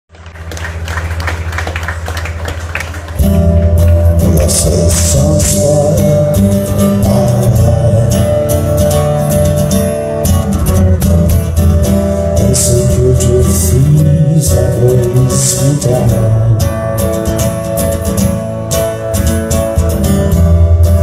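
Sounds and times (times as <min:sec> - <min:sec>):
acoustic guitar strumming: 0:01.9 - 0:21.0.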